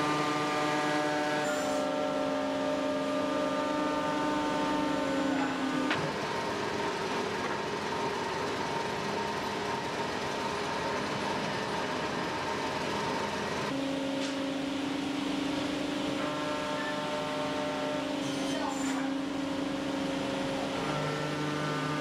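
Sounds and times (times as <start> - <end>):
wood router whine: 0.0 - 22.0.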